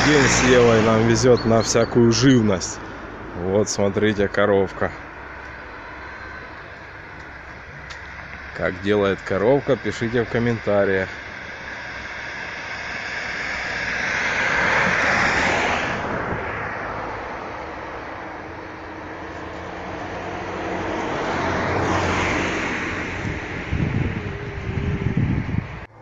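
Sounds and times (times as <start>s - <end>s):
vehicles passing by: 0.0s - 26.0s.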